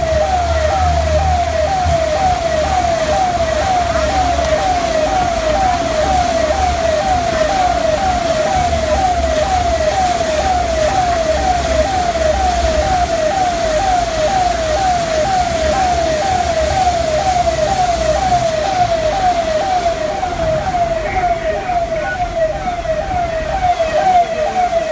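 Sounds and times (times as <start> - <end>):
electronic siren: 0.0 - 24.9.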